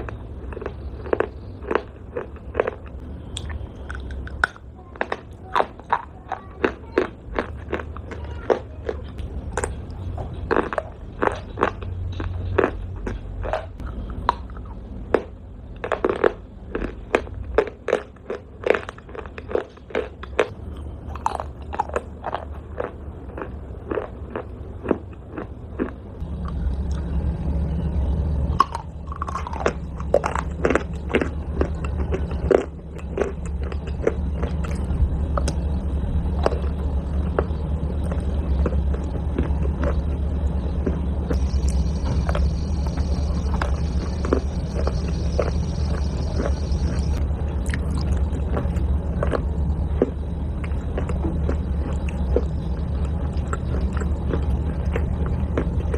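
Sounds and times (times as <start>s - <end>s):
person chewing hard clay: 0.0s - 27.3s, 28.5s - 55.9s
steady low hum: 0.0s - 55.9s.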